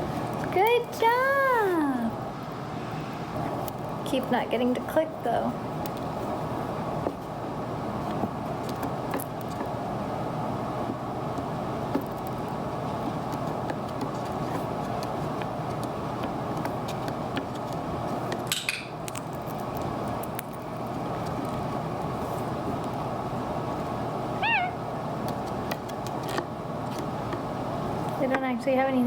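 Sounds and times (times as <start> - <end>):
room hum: 0.0 - 29.0.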